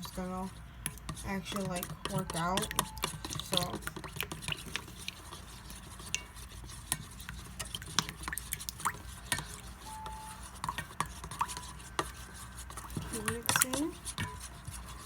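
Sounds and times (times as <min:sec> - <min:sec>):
clicks and scrapes against bowl: 0:00.0 - 0:15.0
utensil stirring liquid in bowl: 0:00.0 - 0:15.0.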